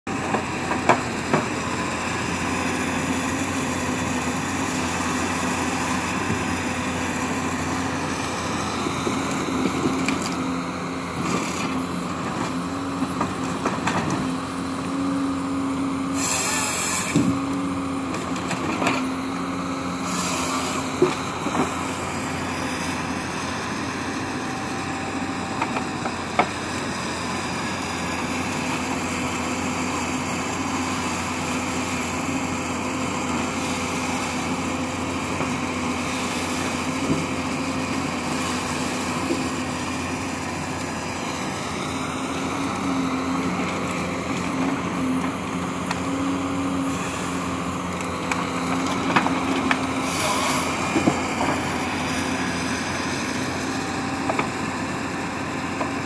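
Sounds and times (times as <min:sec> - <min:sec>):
diesel engine under hydraulic load: 0:00.1 - 0:56.0.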